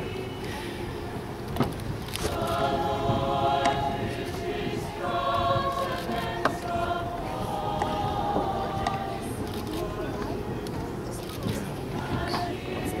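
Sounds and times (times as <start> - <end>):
mixed choir singing: 0.0 - 13.0.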